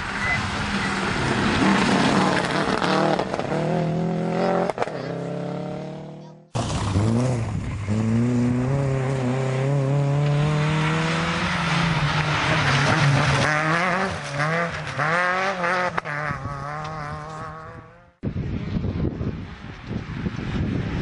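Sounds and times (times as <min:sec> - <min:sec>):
rally car engine at high revs: 0:00.2 - 0:18.2.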